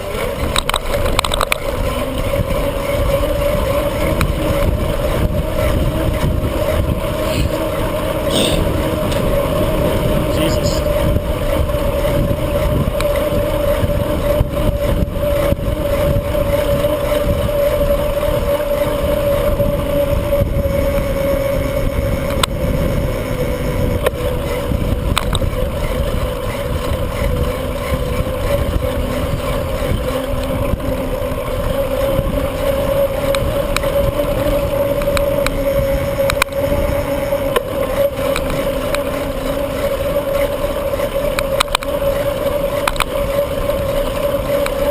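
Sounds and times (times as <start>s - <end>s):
constant hum: 0.0s - 44.9s
wind rushing over microphone: 0.0s - 44.9s.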